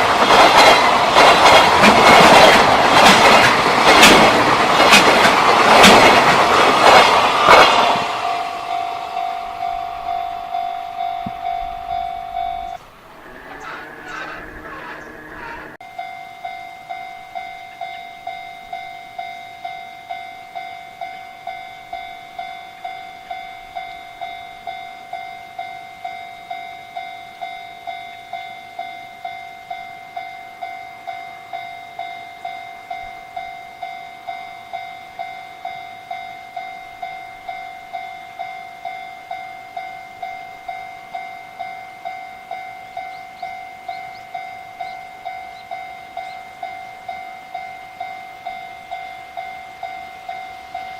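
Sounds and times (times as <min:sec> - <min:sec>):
level-crossing warning bell: 0:00.0 - 0:50.9.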